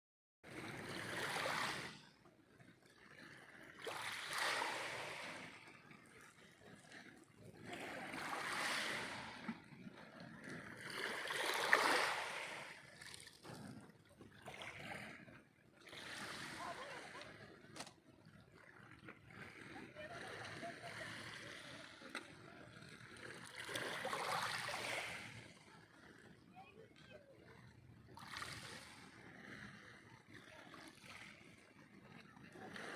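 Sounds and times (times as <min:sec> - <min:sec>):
water lapping gently: 0:00.4 - 0:32.9
small sea waves washing in: 0:00.5 - 0:02.2, 0:03.0 - 0:32.9.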